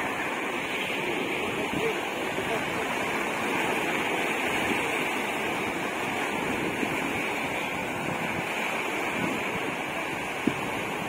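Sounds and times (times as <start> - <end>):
surf washing up beach: 0.0 - 11.0.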